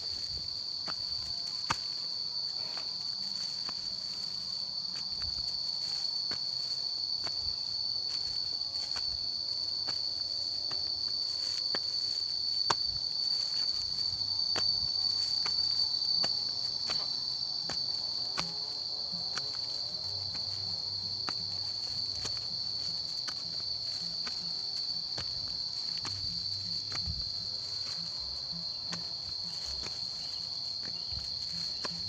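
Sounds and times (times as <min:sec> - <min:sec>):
footsteps on stony path: 0:00.0 - 0:32.0
insects chirring: 0:00.0 - 0:32.0.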